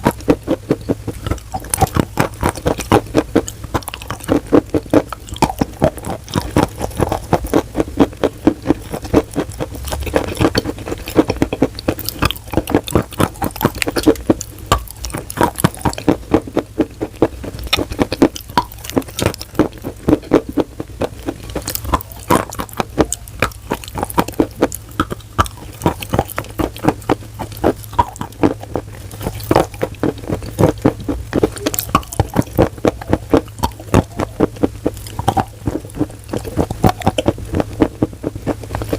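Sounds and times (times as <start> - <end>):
wet crunchy chewing: 0.0 - 38.9.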